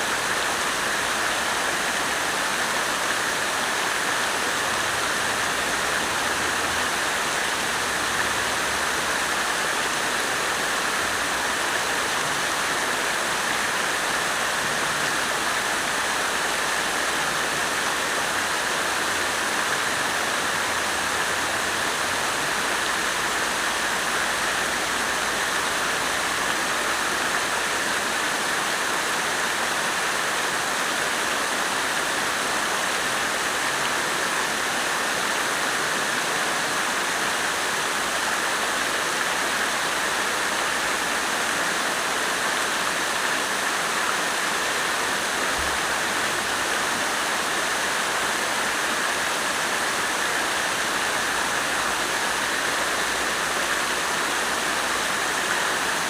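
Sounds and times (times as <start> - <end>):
fountain water splashing: 0.0 - 56.0.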